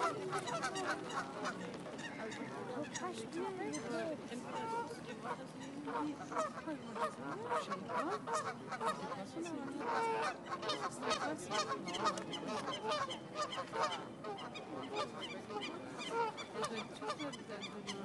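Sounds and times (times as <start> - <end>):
geese honking: 0.0 - 9.1, 9.8 - 18.0.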